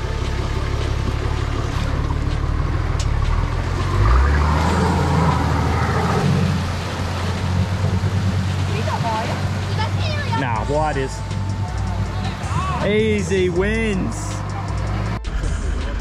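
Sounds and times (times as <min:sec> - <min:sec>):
off-road vehicle engine at low revs: 0:00.0 - 0:16.0.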